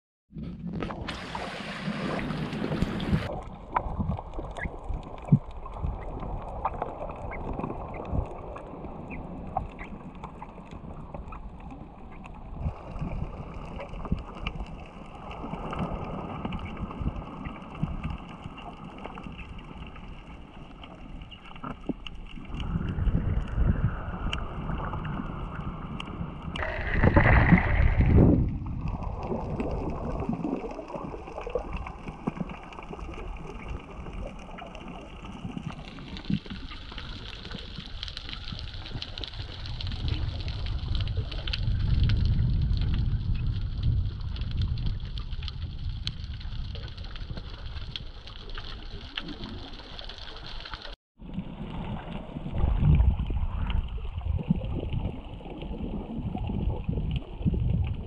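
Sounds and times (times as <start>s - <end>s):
underwater rumble: 0.3s - 58.0s
gurgling water rush: 0.8s - 58.0s.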